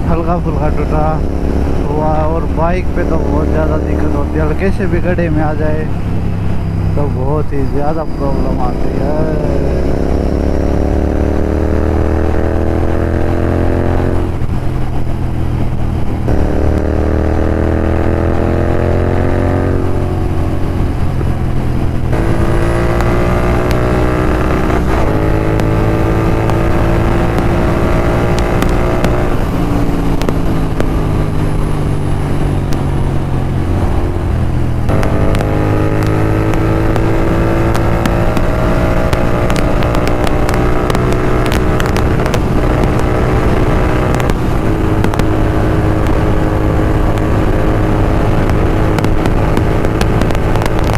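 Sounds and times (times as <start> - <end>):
motorcycle engine revving at speed: 0.0 - 50.9.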